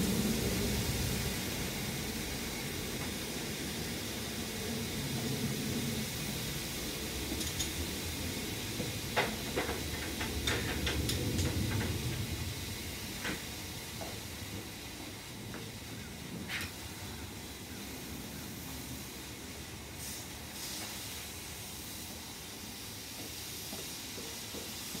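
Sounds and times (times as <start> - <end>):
steam hissing: 0.0 - 25.0.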